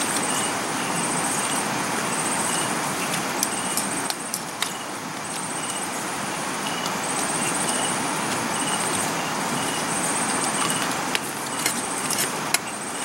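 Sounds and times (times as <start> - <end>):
night insects trilling: 0.0 - 13.0
steady rushing noise: 0.0 - 13.0.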